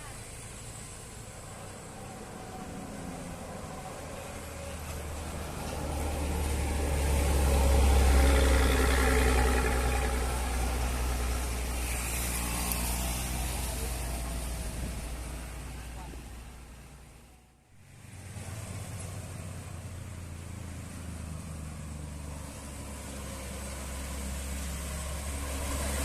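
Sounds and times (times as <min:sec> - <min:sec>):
heavy vehicle engine climbing hill: 0:00.0 - 0:26.0.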